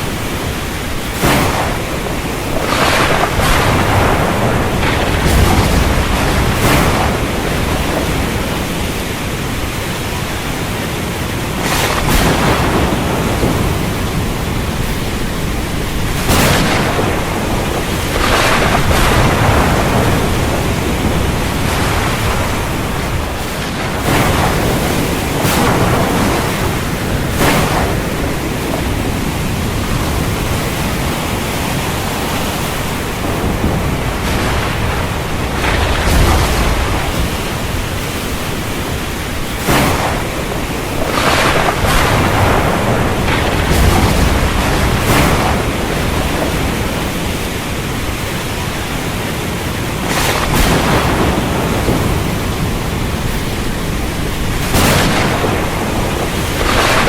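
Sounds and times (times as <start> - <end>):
surf: 0.0 - 57.0
wind: 0.0 - 57.0.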